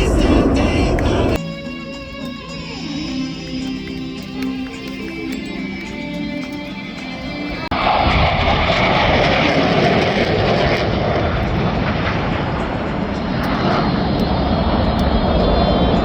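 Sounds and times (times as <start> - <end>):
loud jet engine noise: 0.0 - 1.4, 3.8 - 16.0.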